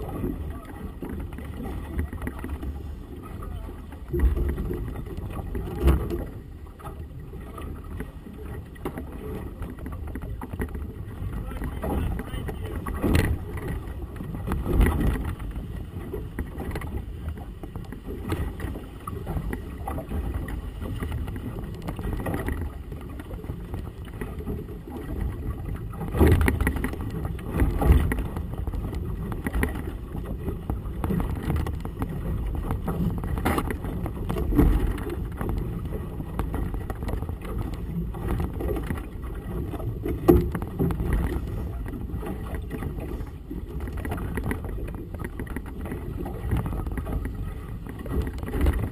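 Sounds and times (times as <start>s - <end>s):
water slapping boat hull: 0.0s - 48.9s.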